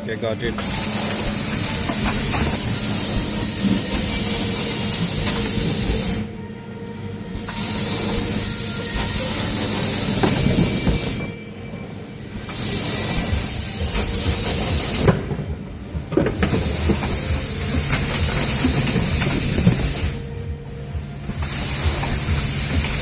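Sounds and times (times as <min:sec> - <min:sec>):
compressed air hiss: 0:00.4 - 0:06.4, 0:07.3 - 0:11.4, 0:12.3 - 0:15.4, 0:16.2 - 0:23.0.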